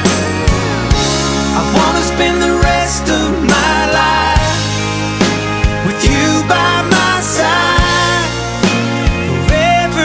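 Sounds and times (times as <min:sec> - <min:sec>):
country ballad music: 0:00.0 - 0:10.0
slow drum beat: 0:00.0 - 0:10.0.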